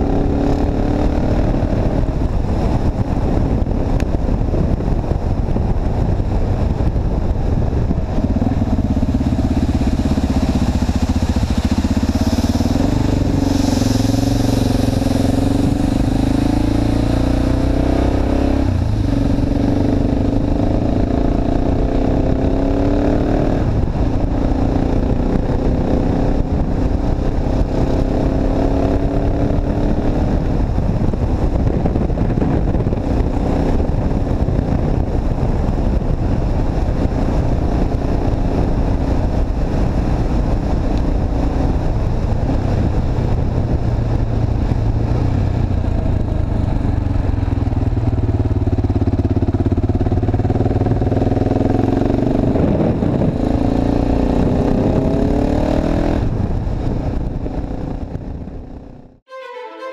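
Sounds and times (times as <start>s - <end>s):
motorcycle engine running: 0.0s - 59.2s
wind noise on microphone: 0.0s - 59.2s.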